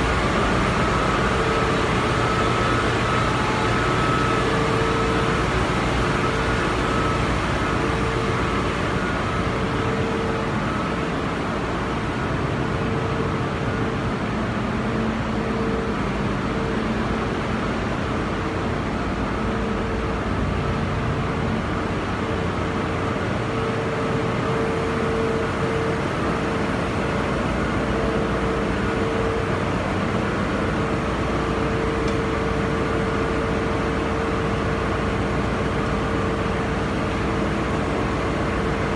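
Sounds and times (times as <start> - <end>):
engine room machinery din: 0.0 - 38.9.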